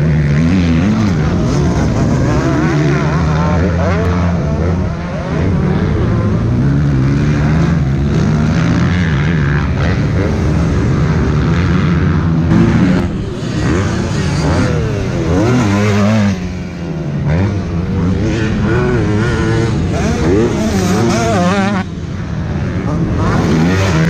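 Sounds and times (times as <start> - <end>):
motocross bikes revving: 0.0 - 24.0.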